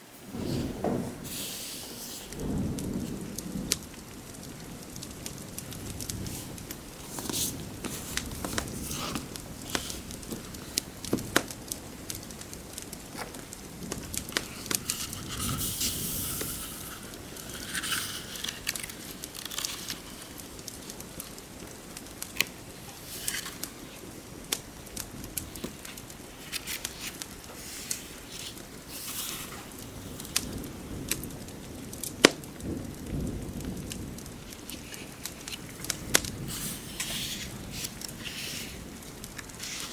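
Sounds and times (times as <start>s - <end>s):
rain hissing: 0.0s - 39.9s
wood fire crackling and popping: 0.2s - 39.9s.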